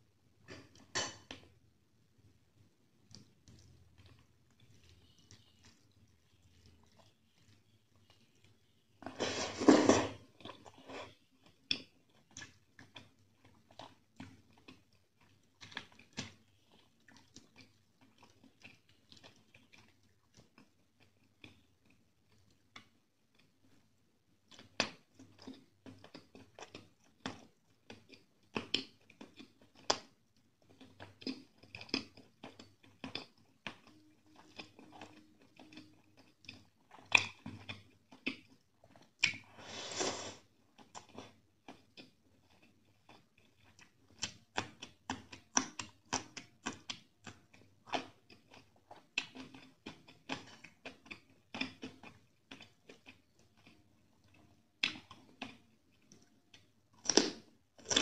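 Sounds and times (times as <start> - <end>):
wet chewing of food: 2.6 - 58.0.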